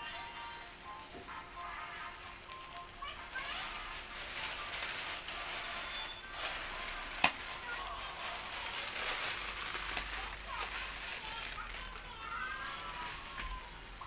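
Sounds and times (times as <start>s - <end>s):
meat sizzling on charcoal grill: 0.0s - 14.0s.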